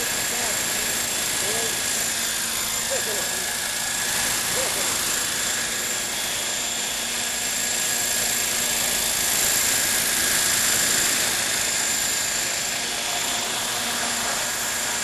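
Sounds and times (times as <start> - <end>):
model helicopter whine: 0.0 - 15.0.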